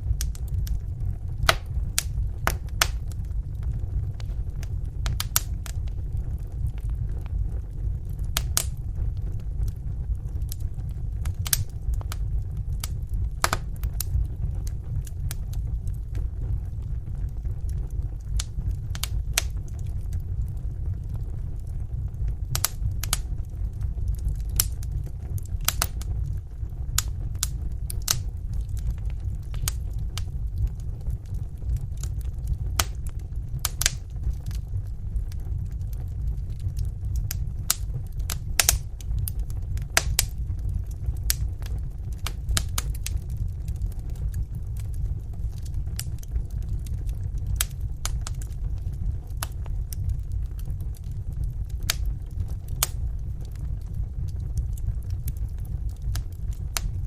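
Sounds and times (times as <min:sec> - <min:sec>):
burning logs crackling and popping: 0:00.0 - 0:57.0
fire flames rumbling: 0:00.0 - 0:57.0.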